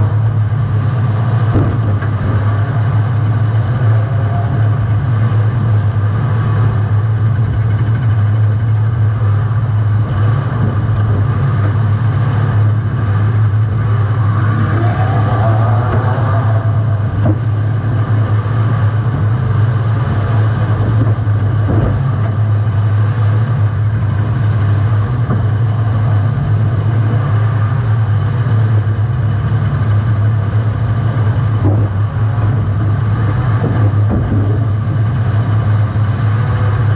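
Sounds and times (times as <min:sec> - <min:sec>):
car engine running hard: 0:00.0 - 0:36.9.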